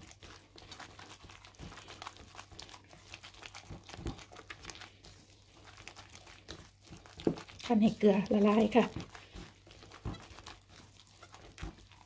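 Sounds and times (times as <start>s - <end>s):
wet paste squelching: 0.0s - 12.0s.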